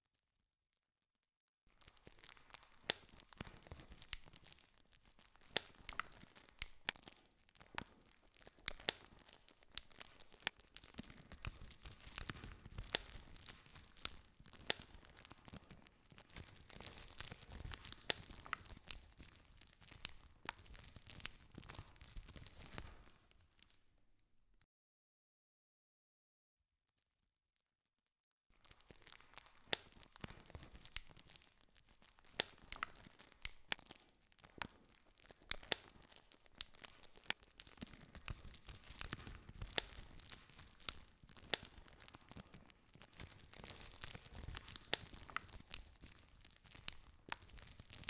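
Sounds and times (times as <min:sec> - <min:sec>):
campfire crackling and popping: 0:01.8 - 0:23.9, 0:28.6 - 0:48.0.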